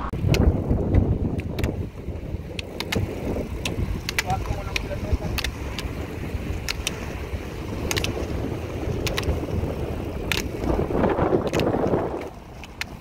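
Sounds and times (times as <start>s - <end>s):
road noise: 0.0s - 13.0s
wind on microphone: 0.0s - 13.0s
ski pole tips clicking on asphalt: 0.2s - 13.0s.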